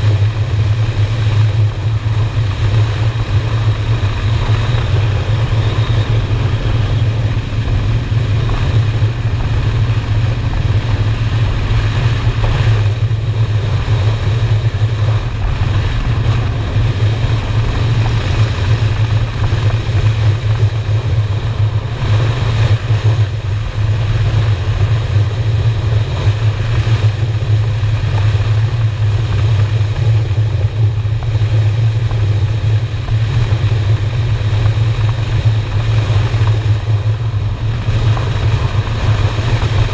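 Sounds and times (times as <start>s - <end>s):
motorcycle exhaust steady: 0.0s - 39.9s
wind and road noise: 0.0s - 39.9s.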